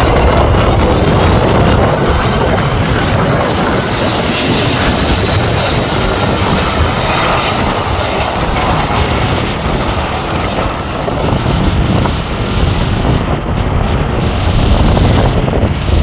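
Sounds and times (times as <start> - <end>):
gusty wind: 0.0 - 16.0
jet engines rushing: 0.0 - 16.0.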